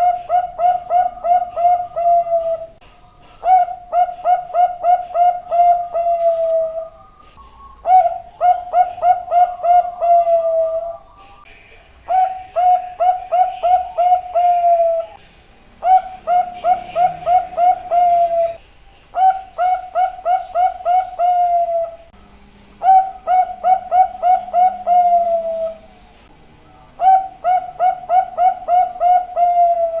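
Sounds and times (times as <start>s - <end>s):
dove cooing: 0.0s - 11.4s, 12.0s - 15.2s, 15.8s - 22.2s, 22.8s - 26.0s, 26.8s - 30.0s.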